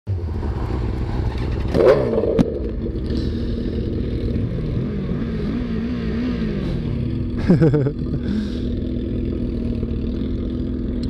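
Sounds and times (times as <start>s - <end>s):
motorcycle engines idling: 0.1s - 11.0s.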